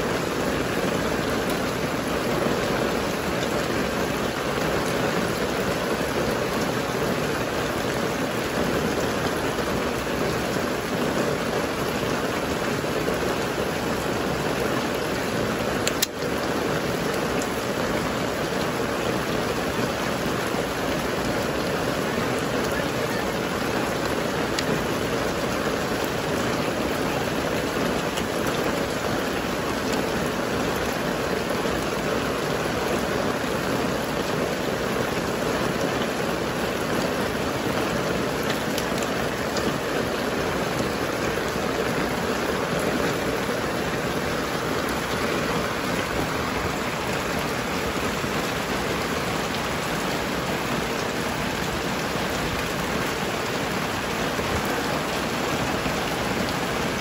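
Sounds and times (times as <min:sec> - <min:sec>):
steady rain-like hiss: 0:00.0 - 0:57.0.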